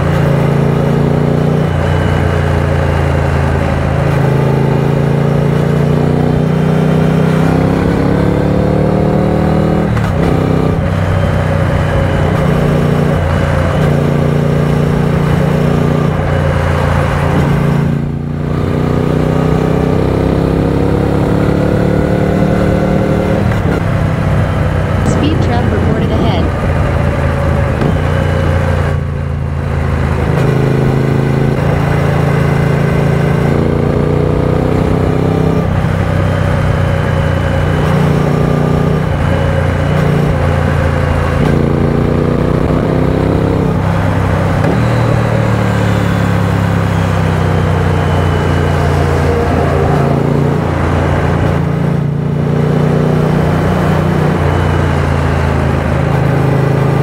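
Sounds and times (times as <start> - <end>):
motorcycle engine revving: 0.0 - 57.0
wind and road noise: 0.0 - 57.0.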